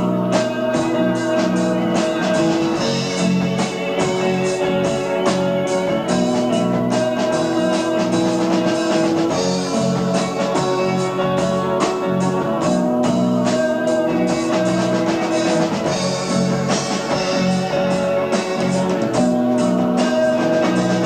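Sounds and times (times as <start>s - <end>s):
bass guitar: 0.0s - 21.0s
drum kit: 0.0s - 21.0s
electric guitar: 0.0s - 21.0s
held keyboard notes: 0.0s - 21.0s.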